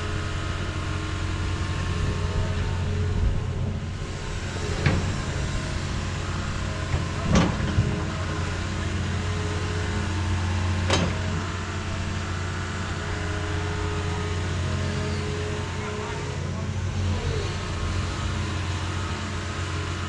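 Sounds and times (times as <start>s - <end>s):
heavy equipment engine running: 0.0s - 20.0s.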